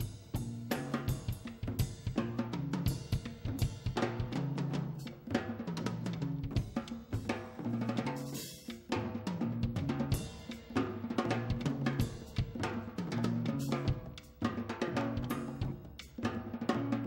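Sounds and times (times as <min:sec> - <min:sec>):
percussion groove: 0:00.0 - 0:17.0.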